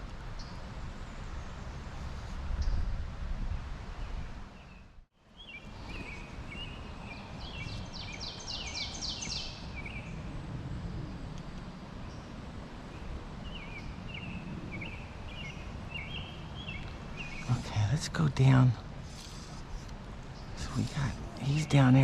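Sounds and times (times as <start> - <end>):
songbird singing: 0.0 - 2.9, 3.9 - 22.0.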